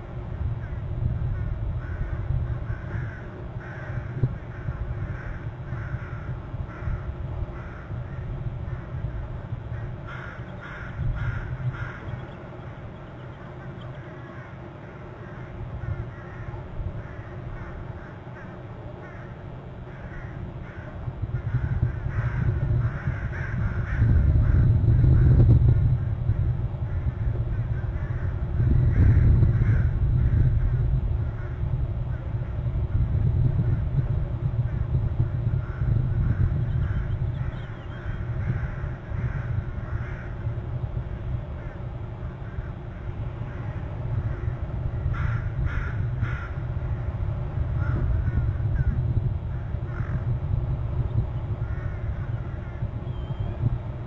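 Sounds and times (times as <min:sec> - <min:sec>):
steady low rumble: 0:00.0 - 0:54.0
bird giving harsh crow-like calls: 0:00.6 - 0:25.4, 0:26.9 - 0:32.4, 0:35.4 - 0:40.6, 0:41.2 - 0:50.4, 0:51.2 - 0:53.8.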